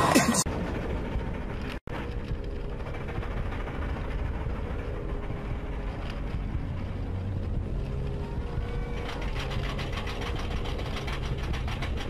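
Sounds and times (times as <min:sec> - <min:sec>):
roller coaster chain lift running: 0:00.5 - 0:12.0.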